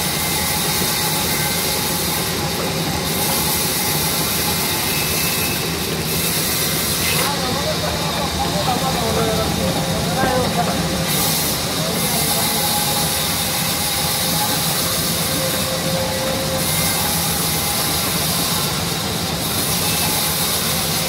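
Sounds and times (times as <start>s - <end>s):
band saw cutting a log: 0.0s - 21.0s.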